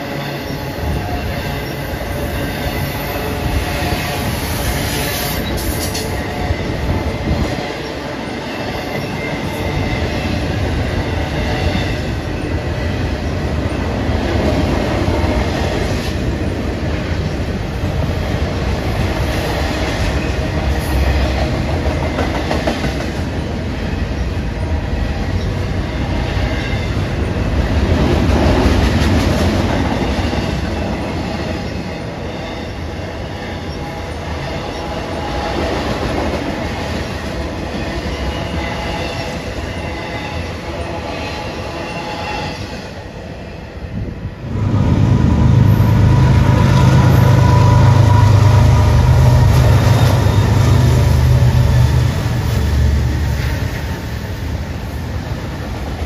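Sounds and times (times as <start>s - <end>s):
steel train wheels on rail: 0.0s - 56.0s.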